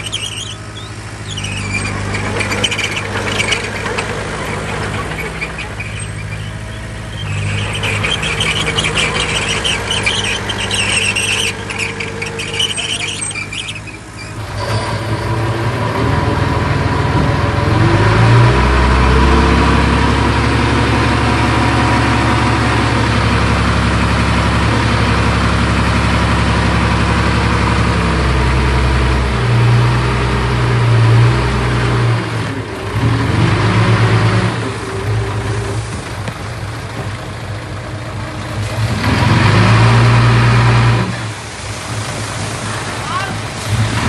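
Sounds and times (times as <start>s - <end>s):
heavy diesel engine revving: 0.0s - 44.0s.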